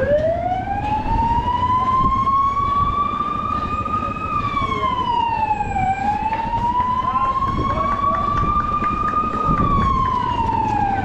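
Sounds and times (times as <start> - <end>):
vehicle siren wailing: 0.0 - 11.0.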